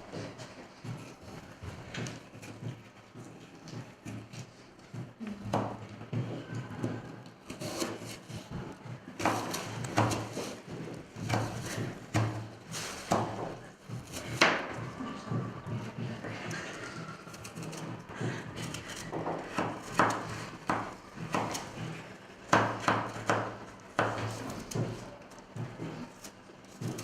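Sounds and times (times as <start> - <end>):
faint background chatter: 0.0 - 27.0.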